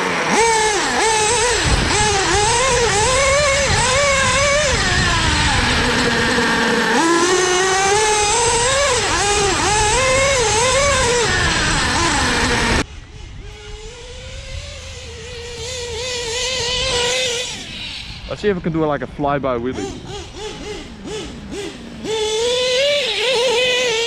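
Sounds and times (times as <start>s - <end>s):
nitro engine revving hard: 0.0s - 24.0s.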